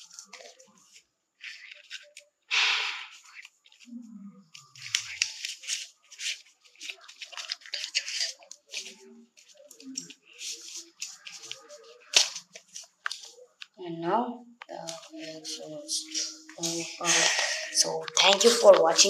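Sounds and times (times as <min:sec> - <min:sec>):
paper rustling and crinkling: 0:00.0 - 0:02.4, 0:03.1 - 0:13.8, 0:14.8 - 0:19.0.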